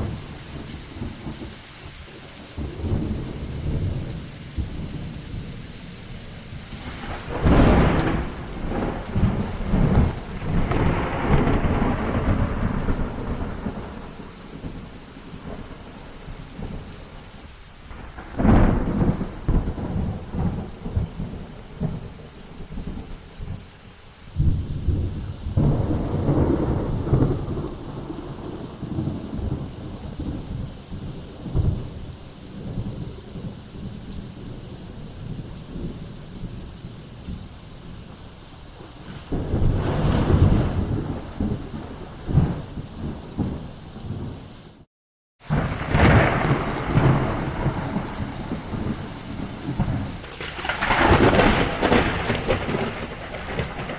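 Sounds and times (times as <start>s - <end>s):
thunder cracking and rumbling: 0.0s - 16.9s, 17.9s - 23.7s, 24.3s - 53.9s
steady rain: 0.0s - 53.9s.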